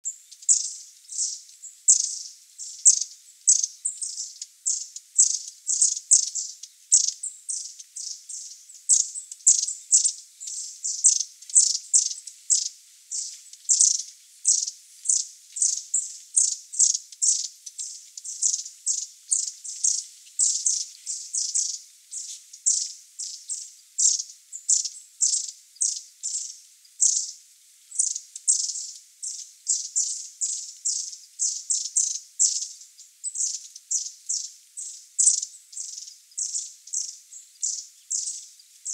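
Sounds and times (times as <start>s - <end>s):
bird giving high chirps: 0.1s - 27.3s, 28.0s - 38.9s.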